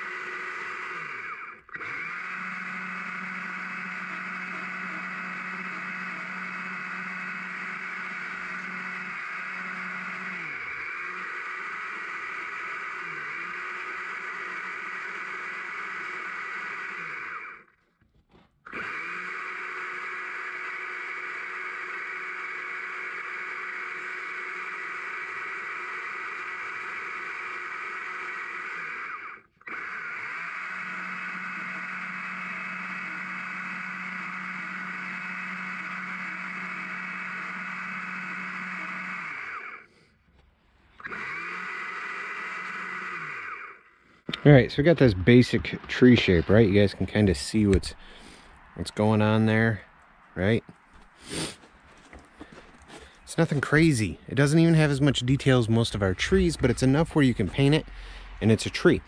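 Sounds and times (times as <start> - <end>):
electric chainsaw cutting wood: 0.0 - 40.2, 40.9 - 59.0.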